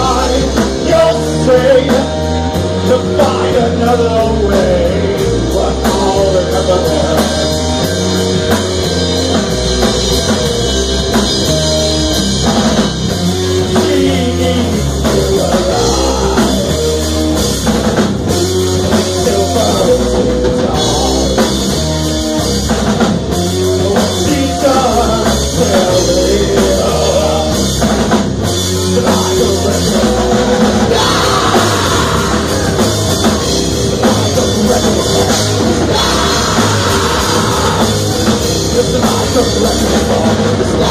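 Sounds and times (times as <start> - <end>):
drum kit: 0.0 - 40.9
live rock band: 0.0 - 40.9.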